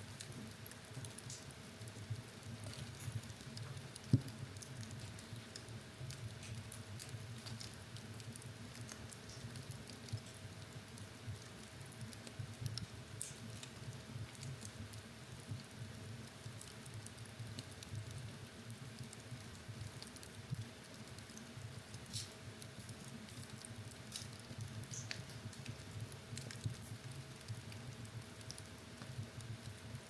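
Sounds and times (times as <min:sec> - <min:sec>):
low rumble of flames: 0:00.0 - 0:30.0
wood fire crackling: 0:00.0 - 0:30.0.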